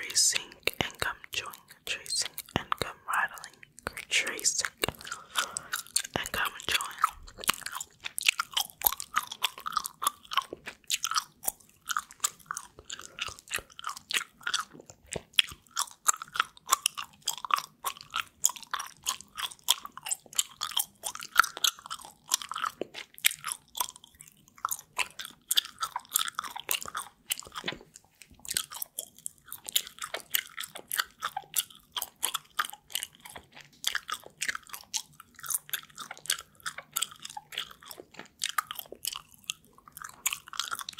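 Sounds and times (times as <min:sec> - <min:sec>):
gum chewing mouth smacks: 0:00.0 - 0:40.9.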